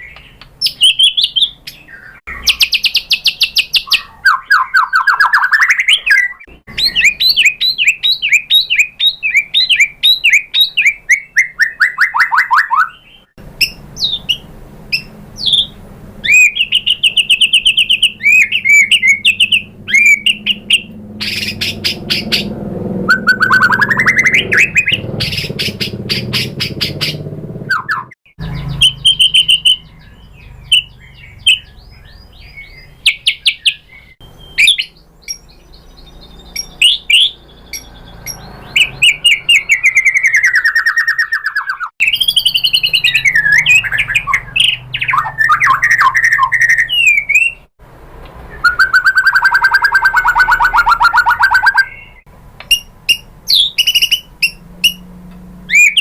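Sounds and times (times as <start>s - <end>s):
bird singing whistled trills: 0.0s - 22.5s, 23.1s - 47.7s, 48.5s - 55.1s, 55.7s - 56.0s.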